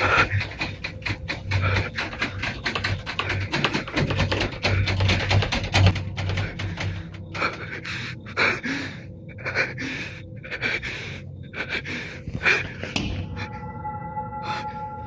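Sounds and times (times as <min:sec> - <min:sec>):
person panting: 0:00.0 - 0:13.7.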